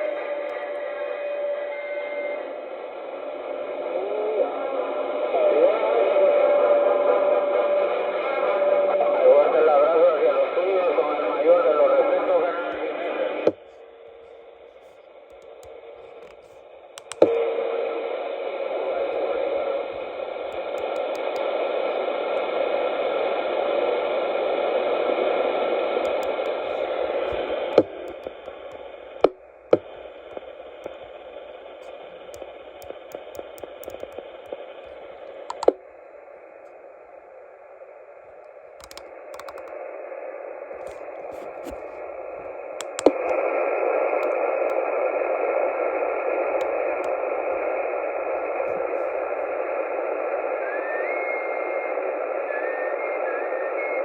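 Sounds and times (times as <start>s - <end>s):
radio receiver static hiss: 0.0s - 54.0s.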